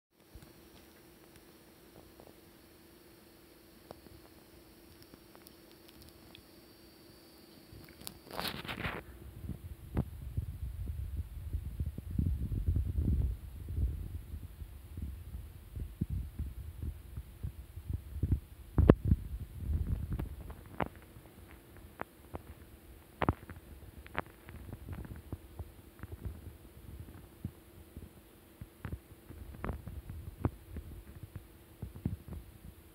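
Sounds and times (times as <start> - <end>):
faint steady hum: 0.2 - 32.9.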